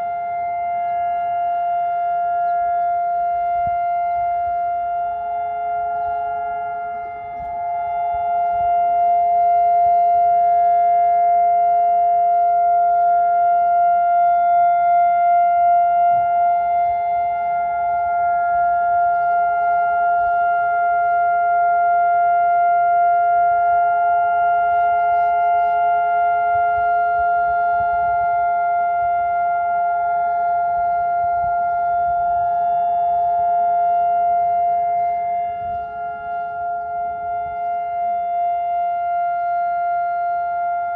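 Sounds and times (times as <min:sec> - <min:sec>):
steady siren tone: 0:00.0 - 0:40.9.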